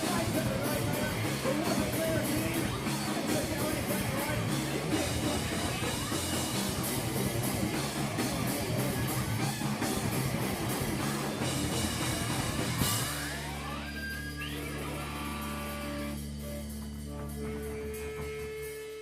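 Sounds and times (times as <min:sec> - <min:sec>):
rock band playing loudly: 0:00.0 - 0:19.0.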